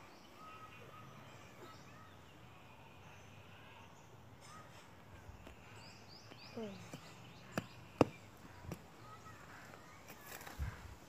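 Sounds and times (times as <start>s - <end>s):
faint bird calls: 0.0s - 10.9s.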